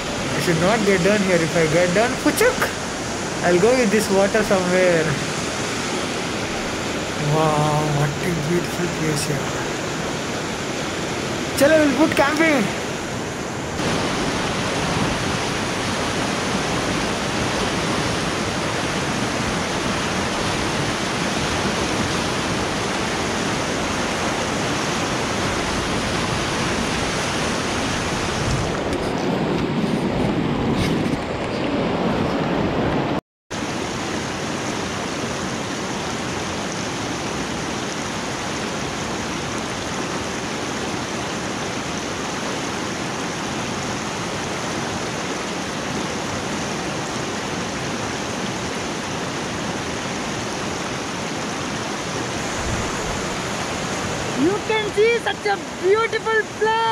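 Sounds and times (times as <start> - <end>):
river rushing over rocky rapids: 0.0 - 29.8, 33.6 - 56.9.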